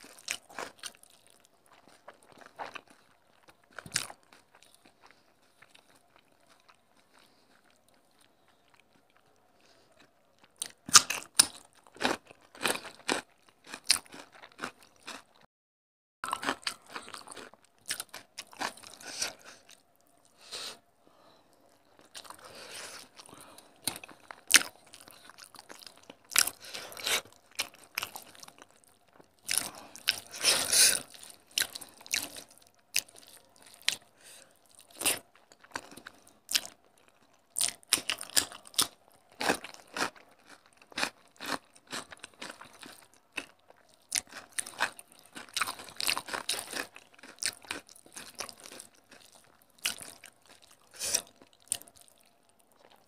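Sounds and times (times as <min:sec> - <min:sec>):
person chewing food: 0:00.0 - 0:15.5, 0:16.2 - 0:53.0.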